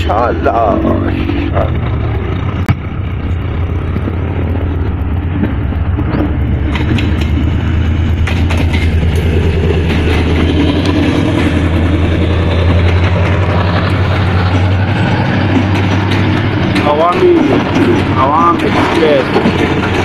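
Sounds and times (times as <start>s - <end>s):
locomotive engine drone: 0.0s - 20.0s
train rolling noise: 0.0s - 20.0s.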